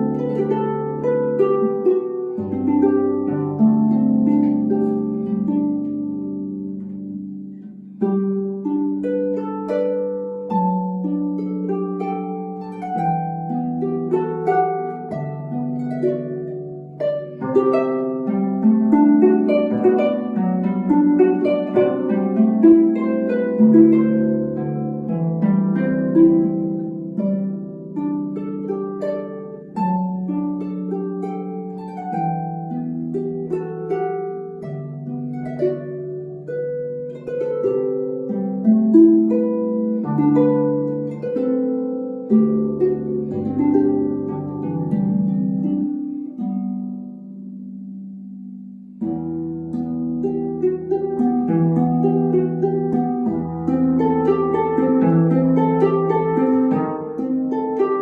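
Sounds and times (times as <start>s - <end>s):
solo harp playing: 0.0s - 58.0s.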